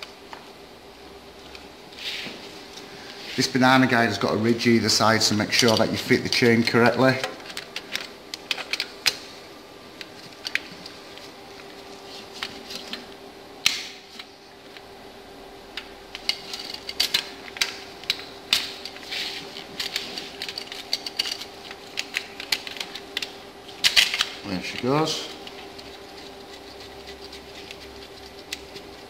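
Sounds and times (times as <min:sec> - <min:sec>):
faint hum: 0:00.0 - 0:29.0.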